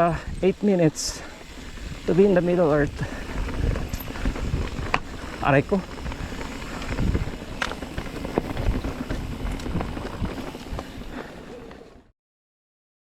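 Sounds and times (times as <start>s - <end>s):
bike riding rumble: 0.0s - 12.1s.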